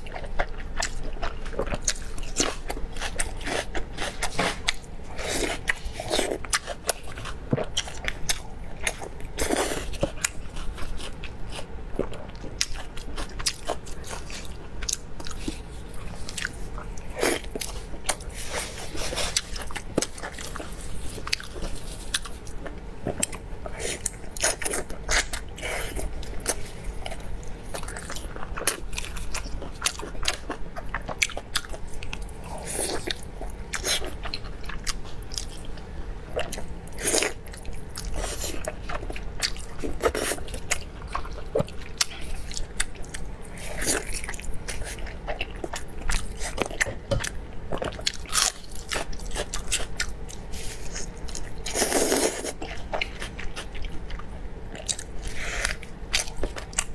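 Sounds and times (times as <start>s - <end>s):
person chewing meat: 0.0s - 56.9s.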